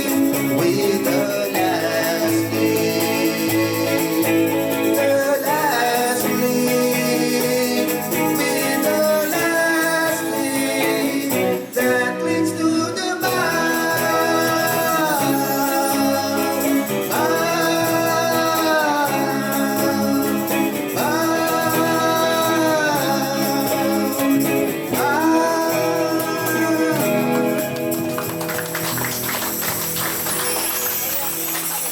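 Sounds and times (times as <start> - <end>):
live band playing a ballad: 0.0 - 31.9.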